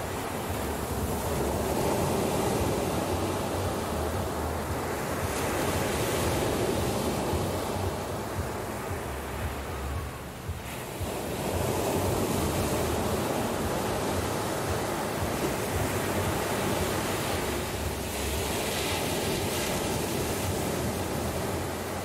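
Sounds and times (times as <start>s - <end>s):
waves washing up a sandy beach: 0.0s - 22.0s.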